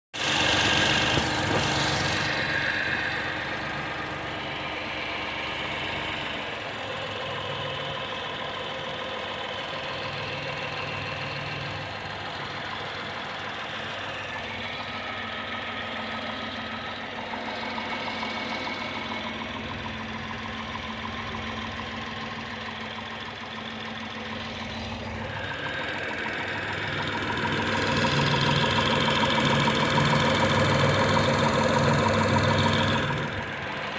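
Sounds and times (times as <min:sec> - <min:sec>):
car engine knocking: 0:00.2 - 0:33.9.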